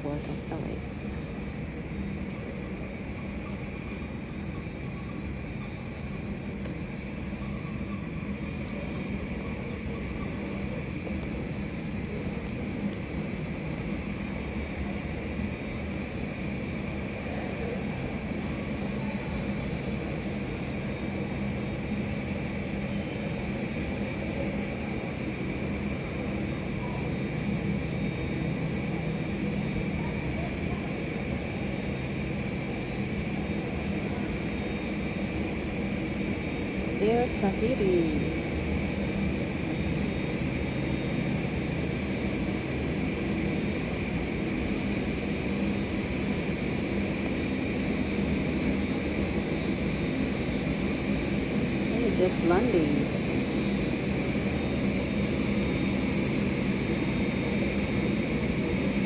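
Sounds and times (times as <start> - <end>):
low airport hum: 0.0 - 59.0.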